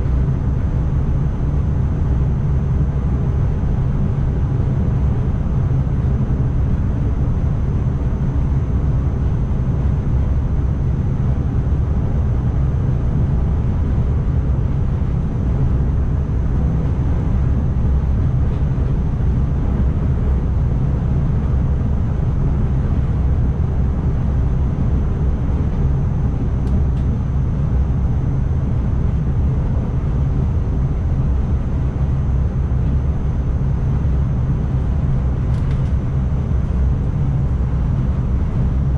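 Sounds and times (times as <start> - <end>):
train low rumble: 0.0 - 38.9.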